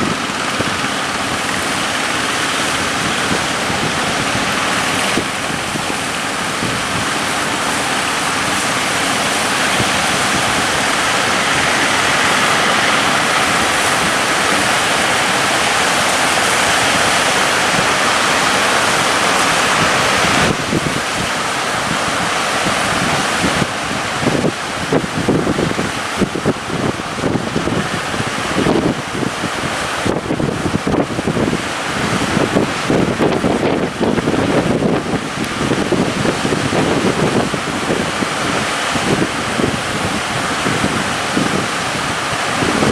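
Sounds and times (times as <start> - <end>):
rough sea water around boat: 0.0 - 42.9
wind noise on microphone: 0.0 - 42.9
wind rushing: 0.0 - 42.9.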